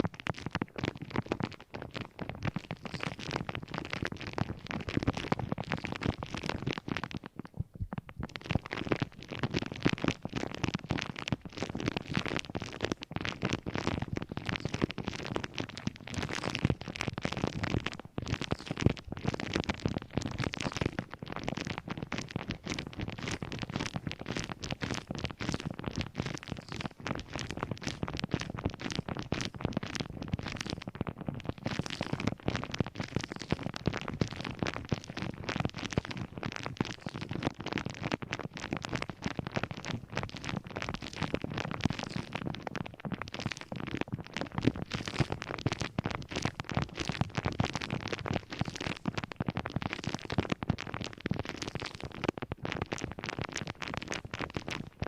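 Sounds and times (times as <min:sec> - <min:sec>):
scratching and crackling clicks: 0:00.0 - 0:55.0.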